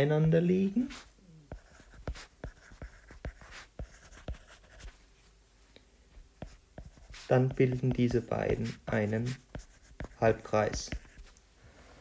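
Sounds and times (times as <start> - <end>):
stylus tapping and scratching: 0.2 - 5.0, 6.2 - 11.4.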